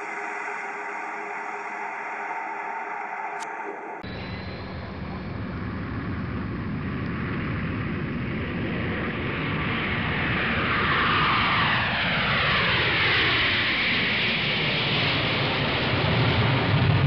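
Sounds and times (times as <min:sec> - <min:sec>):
airplane flying past: 0:02.9 - 0:17.0.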